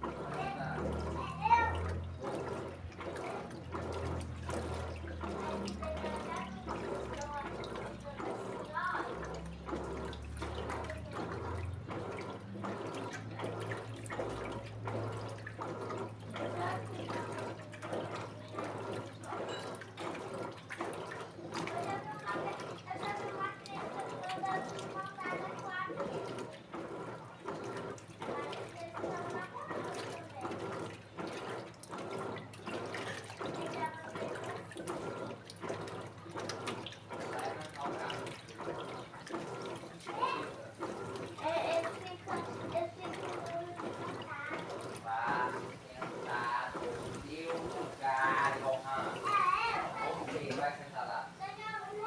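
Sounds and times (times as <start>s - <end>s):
motor hum: 0.0s - 52.0s
washing machine water sloshing: 0.0s - 52.0s.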